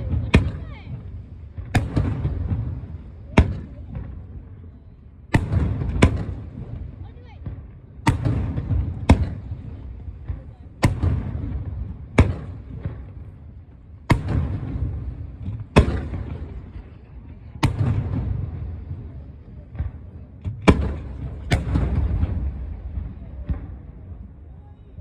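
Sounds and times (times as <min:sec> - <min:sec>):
fireworks bursting: 0:00.0 - 0:24.4
low rumbling echo: 0:00.0 - 0:25.0.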